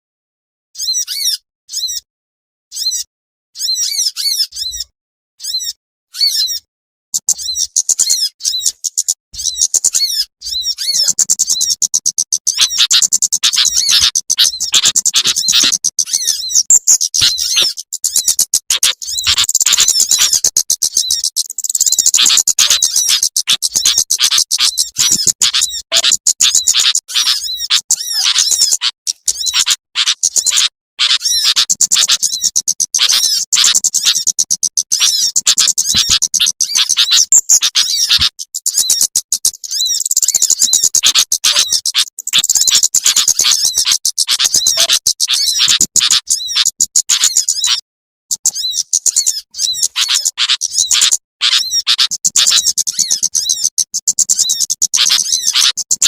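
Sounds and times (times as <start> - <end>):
small birds chirping recording: 0.8 - 2.1, 2.7 - 56.0.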